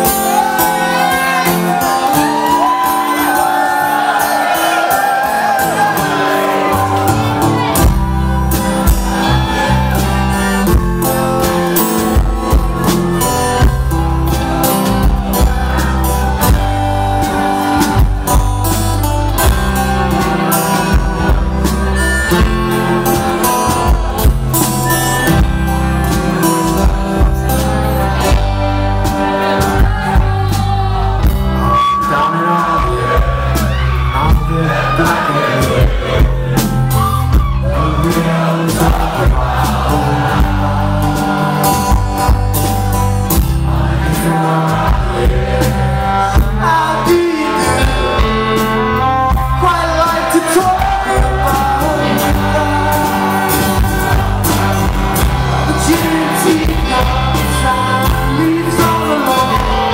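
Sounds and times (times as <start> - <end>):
electric guitar: 0.0 - 59.9
live band playing loud: 0.0 - 59.9
strummed acoustic guitar: 0.0 - 59.9
steady drum beat: 5.6 - 31.6, 32.9 - 59.9.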